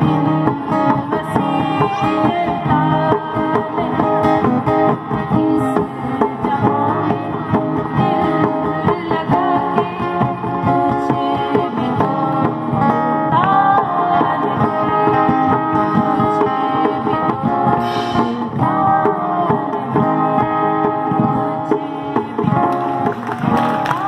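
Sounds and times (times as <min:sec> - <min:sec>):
hand drum beat: 0:00.0 - 0:24.0
woman singing: 0:00.0 - 0:24.0.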